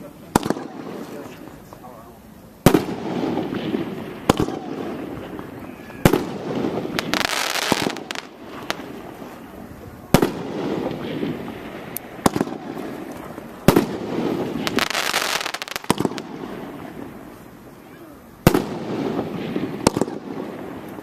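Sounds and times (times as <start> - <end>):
firework shot reports: 0.0 - 1.6, 2.6 - 21.0
firework crackling bursts: 0.0 - 21.0.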